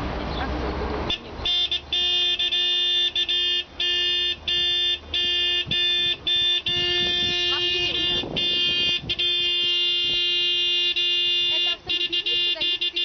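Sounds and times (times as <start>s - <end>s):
car horns honking: 1.0s - 13.0s.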